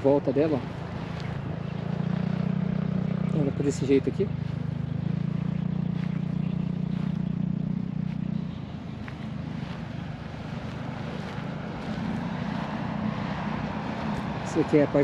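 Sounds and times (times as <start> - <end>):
low engine drone: 0.0 - 15.0
outdoor background noise: 0.0 - 15.0.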